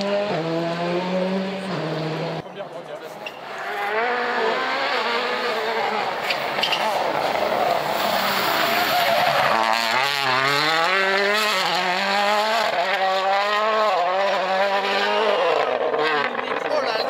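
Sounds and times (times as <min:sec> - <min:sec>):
rally car engine accelerating: 0:00.0 - 0:02.6, 0:03.4 - 0:17.0.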